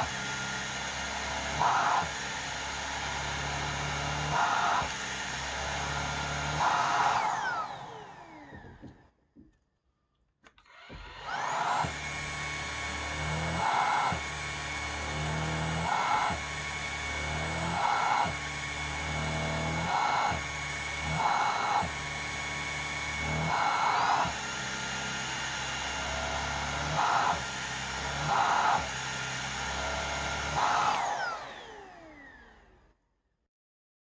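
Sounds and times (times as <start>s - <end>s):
vacuum motor whining: 0.0s - 9.1s, 10.6s - 32.9s.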